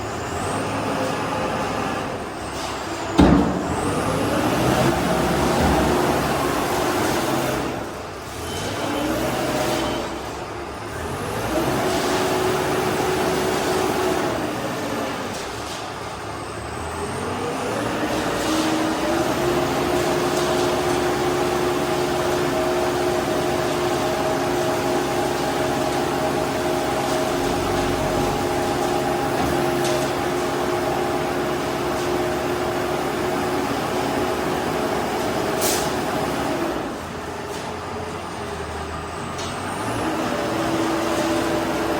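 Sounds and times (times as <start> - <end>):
concrete mixer diesel engine: 0.0 - 41.9.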